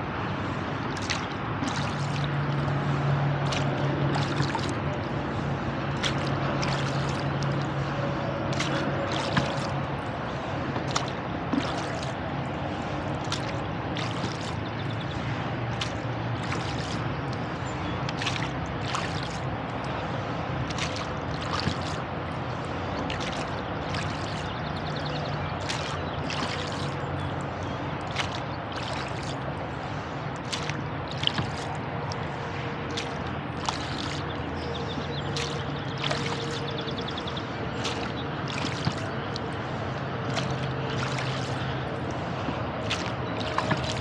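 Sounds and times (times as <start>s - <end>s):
distant highway traffic hum: 0.0s - 44.0s
dripping and trickling water: 0.0s - 44.0s
oars knocking in oarlocks: 0.9s - 44.0s.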